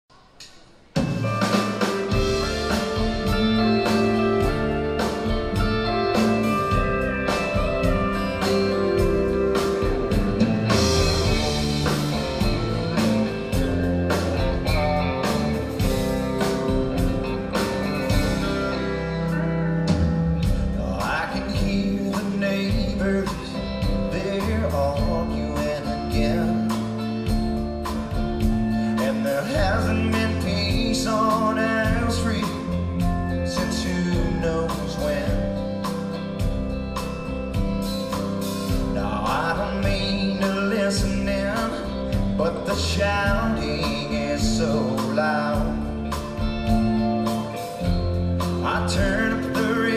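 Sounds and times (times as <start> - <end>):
live country band playing: 0.9 - 49.9.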